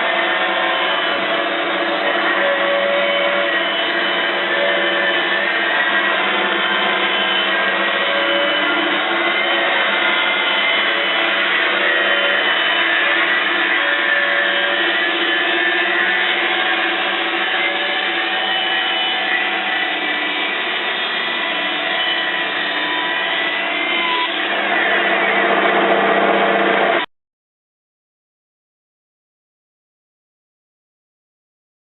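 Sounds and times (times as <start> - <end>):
band sawmill motor humming: 0.0 - 27.0.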